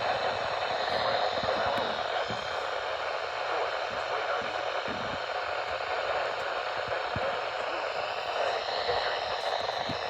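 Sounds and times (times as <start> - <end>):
radio static hiss: 0.0 - 10.0.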